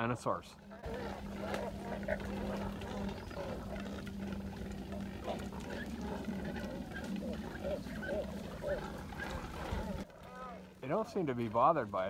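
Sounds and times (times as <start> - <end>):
steady low hum: 0.0 - 12.0
cormorants calling: 0.6 - 12.0.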